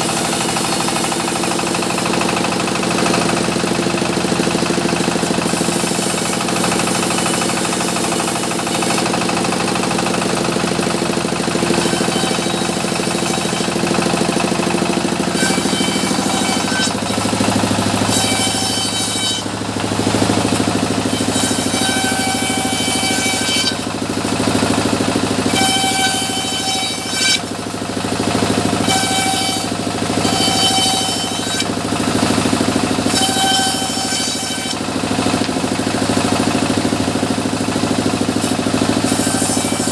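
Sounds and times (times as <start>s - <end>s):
high saw whine: 0.0s - 35.1s, 37.8s - 39.9s
sawmill machinery drone: 0.0s - 39.9s.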